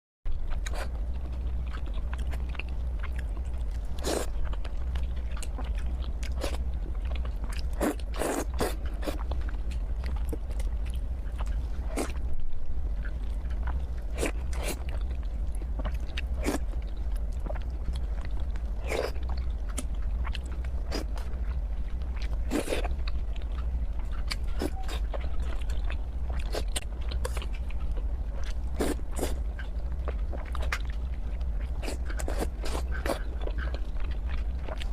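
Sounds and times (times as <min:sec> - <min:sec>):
person chewing food: 0:00.3 - 0:34.9
steady low hum: 0:00.3 - 0:34.9.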